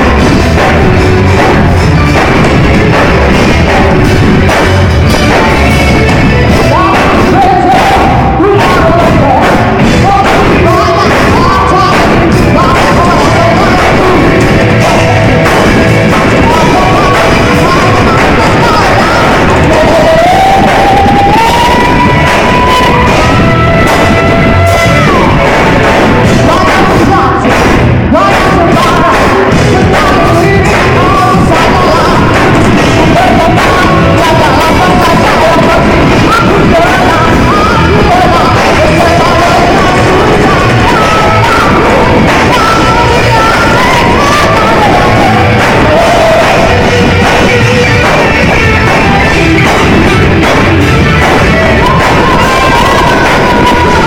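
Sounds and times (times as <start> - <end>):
held sliding melody line: 0.0 - 54.0
live rock band playing: 0.0 - 54.0
person singing: 0.0 - 54.0.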